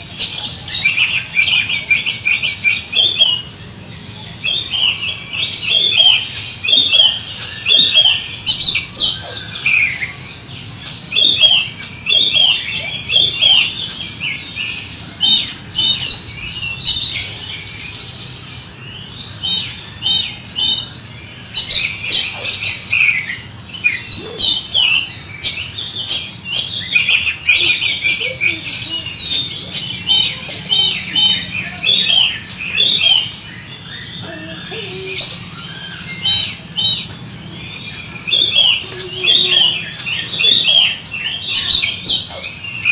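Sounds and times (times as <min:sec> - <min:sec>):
songbird chirping and churring: 0:00.0 - 0:42.9.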